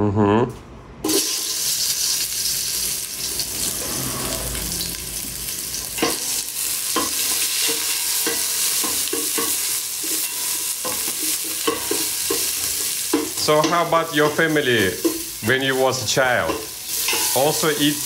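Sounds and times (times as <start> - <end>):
onion sizzling in hot oil: 1.0 - 18.0.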